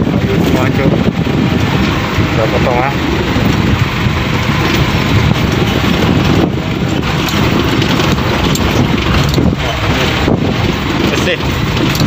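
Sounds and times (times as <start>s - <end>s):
engine running: 0.0s - 12.0s
tyres rumbling over dirt: 0.0s - 12.0s.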